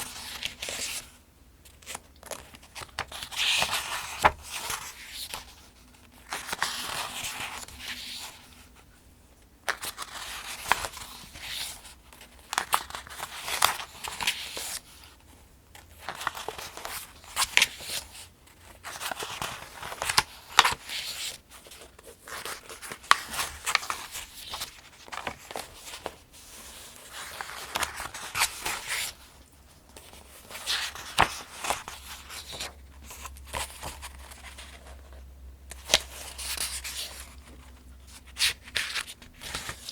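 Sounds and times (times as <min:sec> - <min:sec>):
book pages turning: 0:00.0 - 0:08.6, 0:09.6 - 0:15.2, 0:15.8 - 0:39.9.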